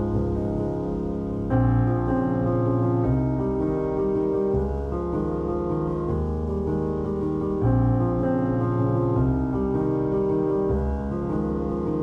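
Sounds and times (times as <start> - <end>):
piano chords and bass notes: 0.0 - 12.0.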